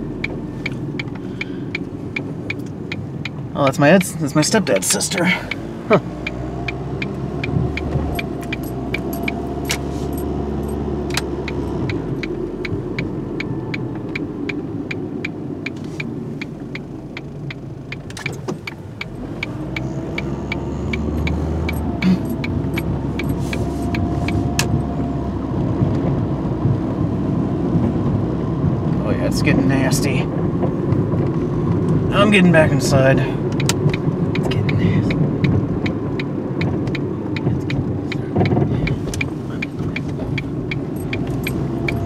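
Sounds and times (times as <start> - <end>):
car engine and road noise: 0.0 - 42.0
turn signal ticking: 0.0 - 42.0.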